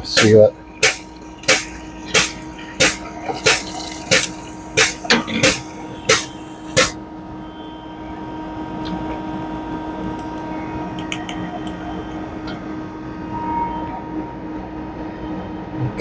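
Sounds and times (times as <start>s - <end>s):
frozen drink machine humming: 0.0s - 13.3s.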